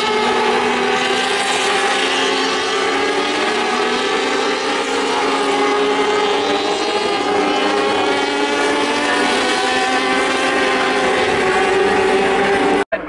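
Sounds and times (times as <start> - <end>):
racing motorcycles at high revs: 0.0 - 13.0.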